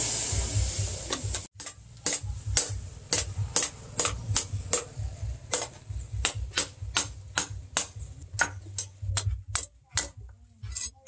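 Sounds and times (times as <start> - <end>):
hammer striking metal on anvil: 1.2 - 10.2.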